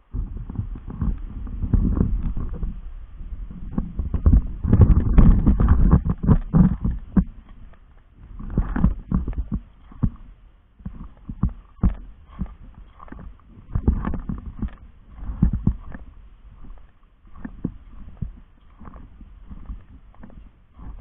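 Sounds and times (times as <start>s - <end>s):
camera thumps and rubbing: 0.2s - 2.7s, 3.6s - 21.0s
footsteps crunching on gravel: 3.8s - 21.0s.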